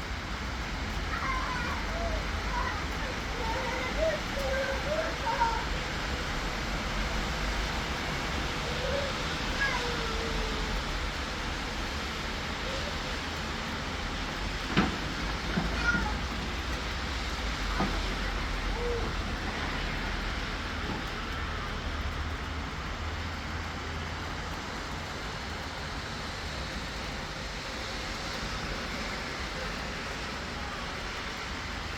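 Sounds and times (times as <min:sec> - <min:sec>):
low rumble of city traffic: 0:00.0 - 0:31.9
steady rain falling: 0:00.0 - 0:31.9.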